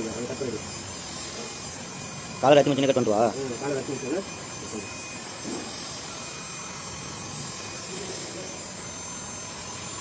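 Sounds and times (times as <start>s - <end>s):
heat gun fan blowing: 0.0s - 10.0s.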